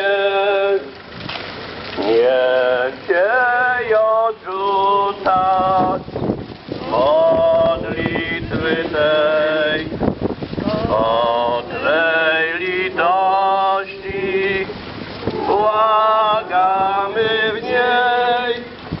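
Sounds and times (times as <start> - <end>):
voices singing a slow chant: 0.0 - 0.9, 2.0 - 18.8.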